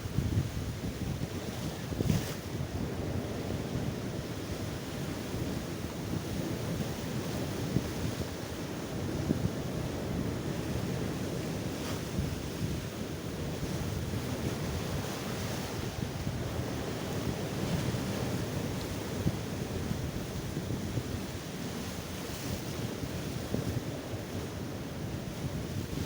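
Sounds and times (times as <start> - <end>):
sea waves breaking on shore: 0.0 - 26.0
wind buffeting microphone: 0.0 - 26.0.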